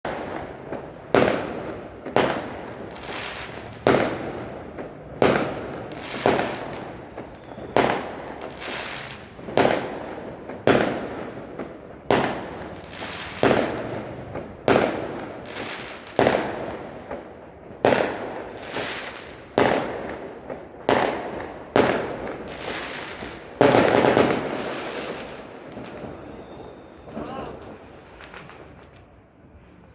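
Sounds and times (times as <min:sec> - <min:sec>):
fireworks bangs with crackle: 0:00.1 - 0:29.7.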